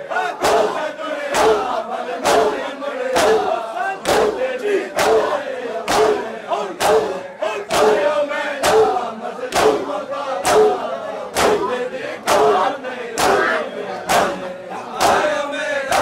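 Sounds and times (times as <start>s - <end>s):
men chanting: 0.0s - 16.0s
hands slapping chests in unison: 0.2s - 16.0s.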